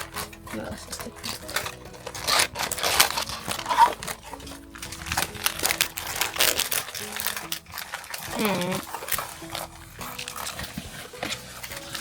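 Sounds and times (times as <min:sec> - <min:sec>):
plastic packaging crinkling: 0:00.0 - 0:12.0
soft background music: 0:00.0 - 0:12.0.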